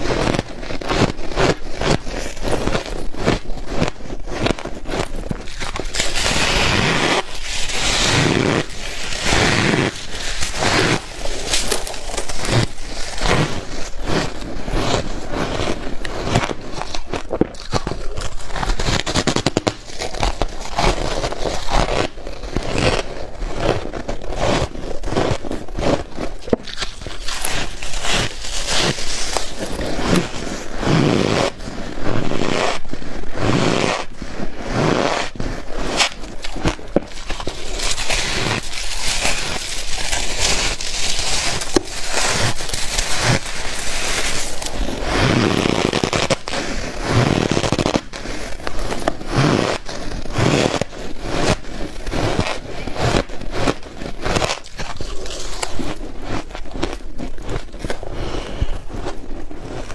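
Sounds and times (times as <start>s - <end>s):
ice being chewed crunching: 0.0s - 59.9s.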